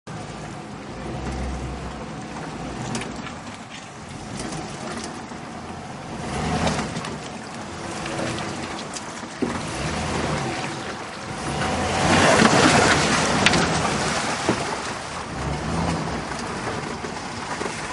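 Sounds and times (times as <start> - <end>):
truck engine running: 0.1 - 17.9
tyres splashing through puddles: 0.1 - 17.9.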